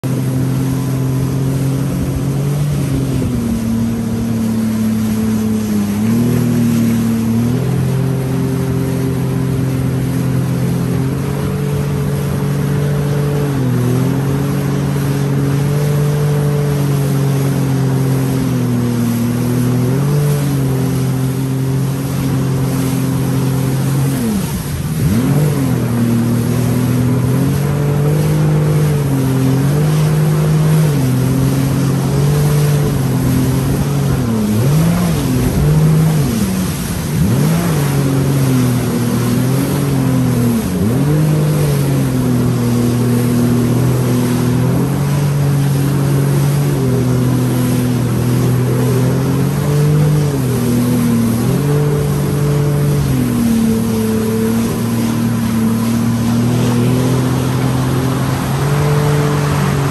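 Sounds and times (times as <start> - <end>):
jet ski engine running: 0.0 - 59.9
wind: 0.0 - 59.9.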